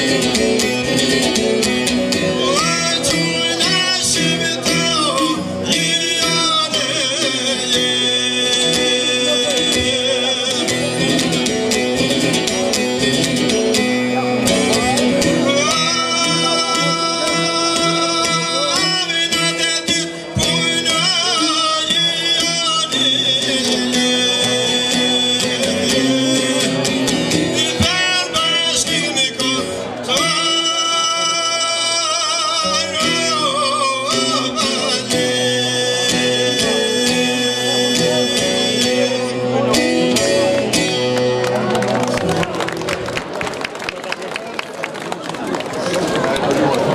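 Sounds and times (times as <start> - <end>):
man singing folk song: 0.0 - 42.5
plucked long-necked lute: 0.0 - 43.3.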